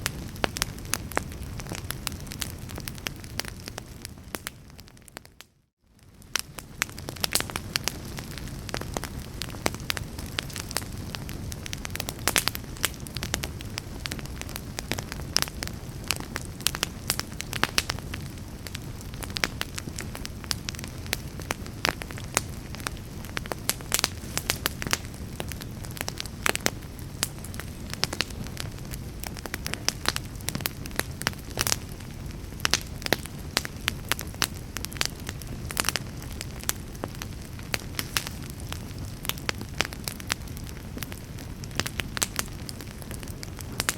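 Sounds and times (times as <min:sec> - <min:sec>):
fireplace fire crackling and popping: 0:00.0 - 0:43.9
low rumble of flames: 0:00.0 - 0:43.9.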